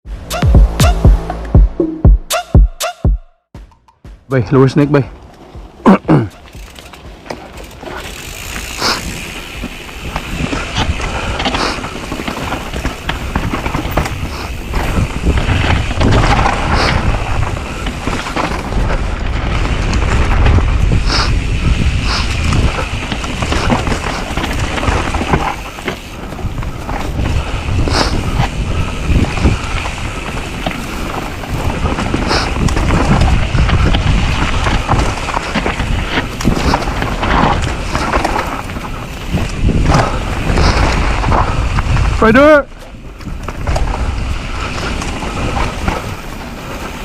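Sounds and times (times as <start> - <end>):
tyres rumbling over dirt: 4.3 - 47.0
bike rattling over bumps: 4.4 - 47.0
wind buffeting microphone: 4.9 - 47.0.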